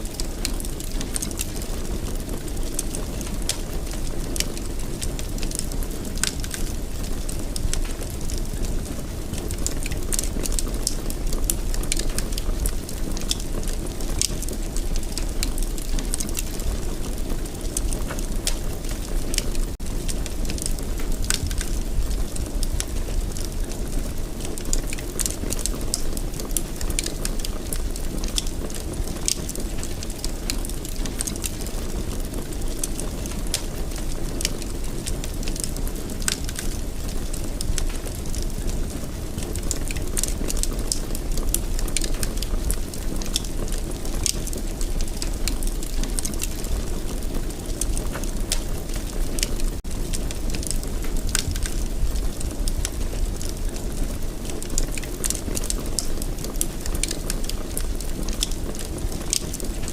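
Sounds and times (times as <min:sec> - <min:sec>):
low rush of flames: 0:00.0 - 0:59.9
wood crackling and popping: 0:00.0 - 0:59.9.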